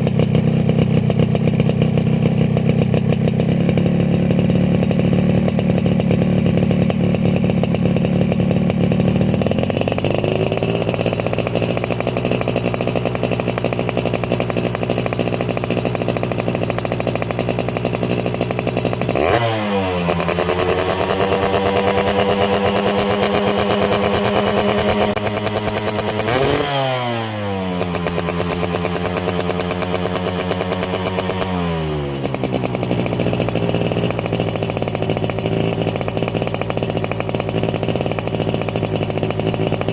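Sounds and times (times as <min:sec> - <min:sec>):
two-stroke motorcycle engine idling: 0:00.0 - 0:39.9.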